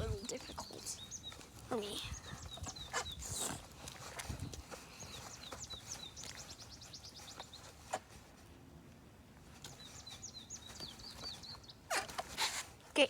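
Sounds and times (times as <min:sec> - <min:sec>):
small bird chirping: 0:00.0 - 0:08.2, 0:09.5 - 0:12.5.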